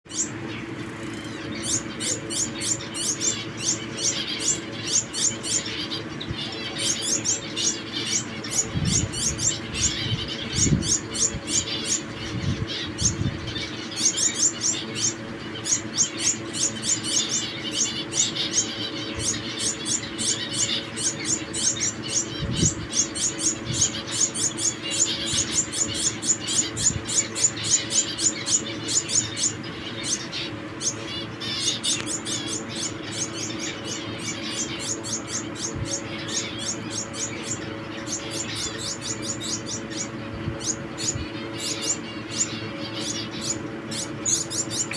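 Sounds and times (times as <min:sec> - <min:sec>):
finches chirping: 0:00.1 - 0:44.9
steady low hum: 0:00.1 - 0:44.9.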